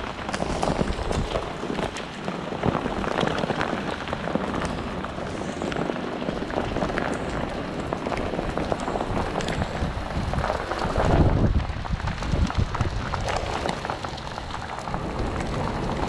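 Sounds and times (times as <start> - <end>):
hailstones ticking: 0.0 - 16.0
rain pattering: 0.0 - 16.0.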